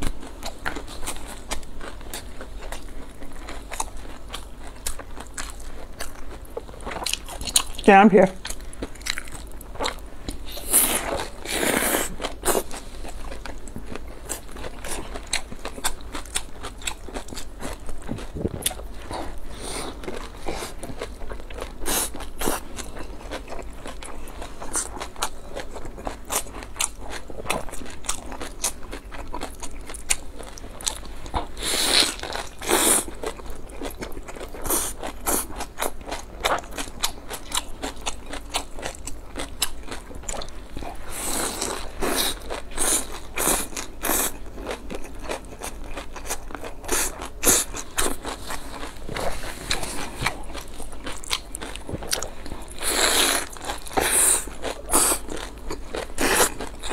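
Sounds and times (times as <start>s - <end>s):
chewing: 0.0s - 7.8s, 8.4s - 56.9s.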